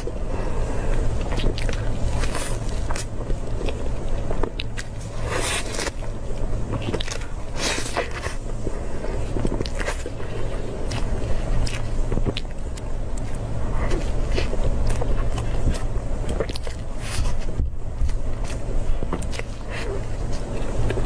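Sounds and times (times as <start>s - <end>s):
chewing soft cake: 0.0s - 21.0s
crunchy bites: 0.0s - 21.0s
steady low hum: 0.0s - 21.0s.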